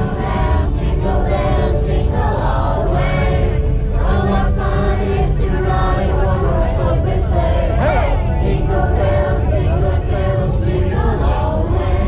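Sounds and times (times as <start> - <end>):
group singing a christmas song: 0.0 - 12.0
music: 0.0 - 12.0.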